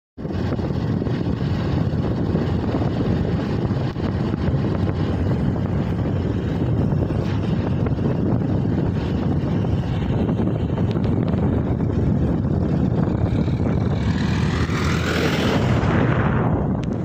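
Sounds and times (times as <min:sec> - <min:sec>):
vehicle road noise: 0:00.2 - 0:17.0
wind buffeting microphone: 0:00.2 - 0:17.0.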